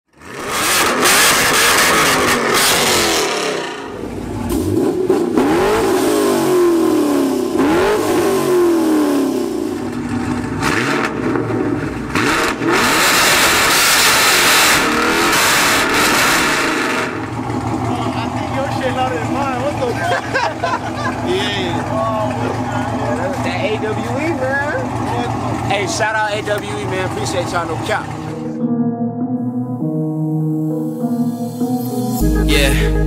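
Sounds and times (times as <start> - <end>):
car engines revving: 0.1 - 28.6.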